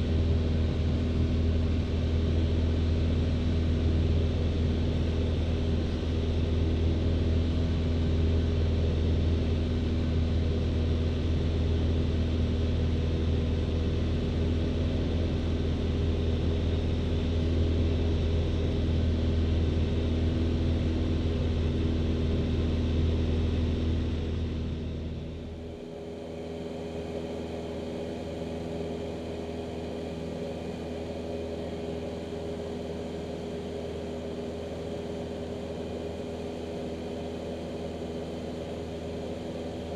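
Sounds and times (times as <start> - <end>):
light airplane engine drone: 0.0 - 39.9.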